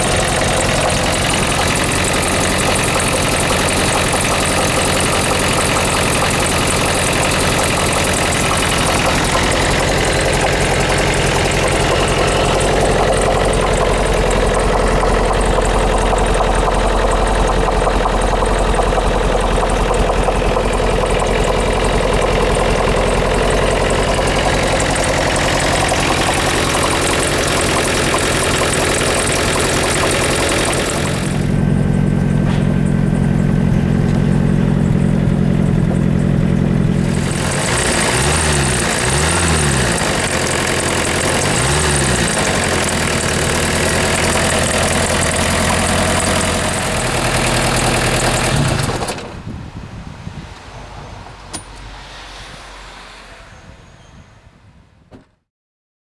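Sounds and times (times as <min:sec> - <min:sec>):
diesel engine idling with clatter: 0:00.0 - 0:54.1.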